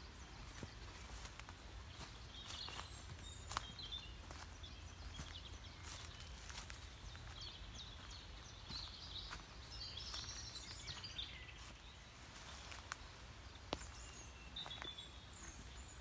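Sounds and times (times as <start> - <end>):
footsteps on forest path: 0.0 - 16.0
songbirds chirping and trilling: 0.0 - 16.0.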